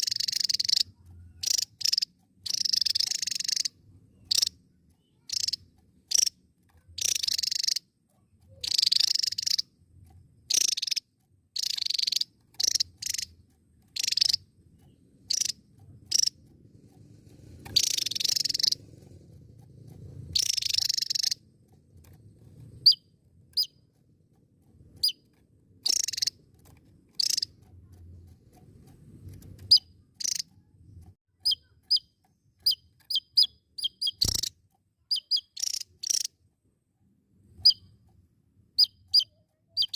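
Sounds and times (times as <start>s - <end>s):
thin down-slurred bird chips: 0.0s - 36.3s, 38.8s - 39.9s.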